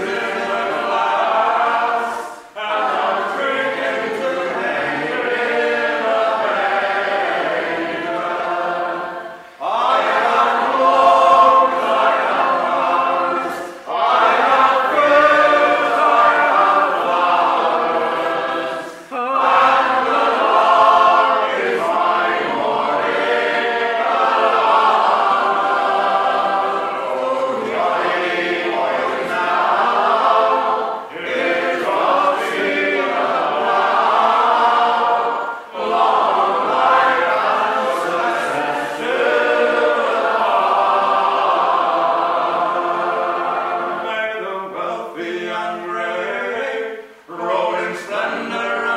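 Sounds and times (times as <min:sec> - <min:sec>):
men singing in harmony: 0:00.0 - 0:48.9.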